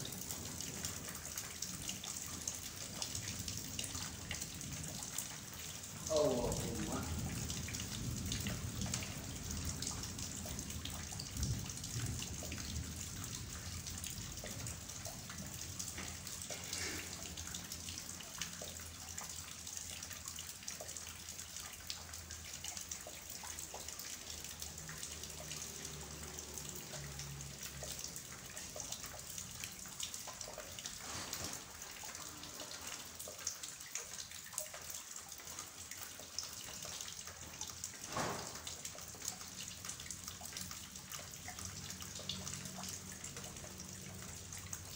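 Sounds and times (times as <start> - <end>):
heavy rain splashing in puddles: 0.0 - 44.9.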